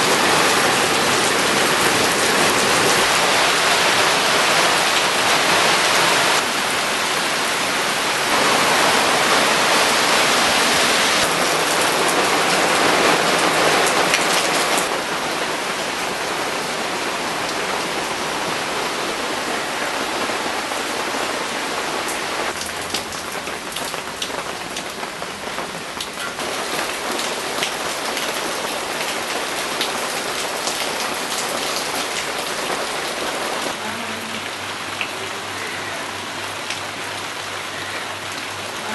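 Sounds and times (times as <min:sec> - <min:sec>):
heavy rain falling: 0:00.0 - 0:38.9
rain drops ticking: 0:00.0 - 0:38.9.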